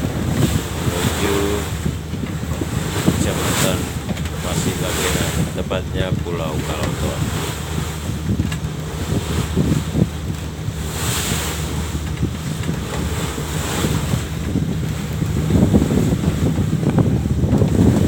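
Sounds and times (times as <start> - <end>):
sea water rushing: 0.0 - 18.0
wind buffeting microphone: 0.0 - 18.0.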